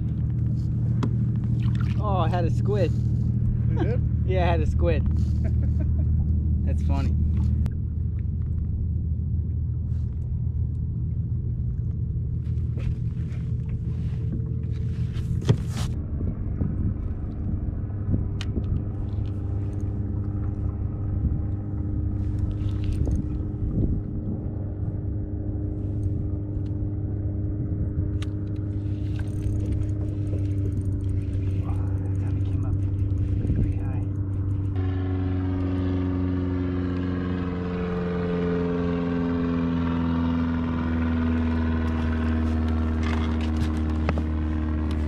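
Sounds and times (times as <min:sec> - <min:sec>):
motor running with low rumble: 0:00.0 - 0:45.0.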